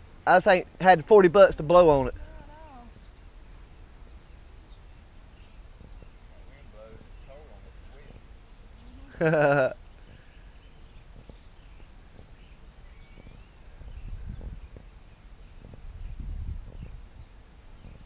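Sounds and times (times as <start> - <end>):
steady high hiss: 0.0 - 18.0
faint bird chirps: 2.1 - 3.3, 4.0 - 18.0.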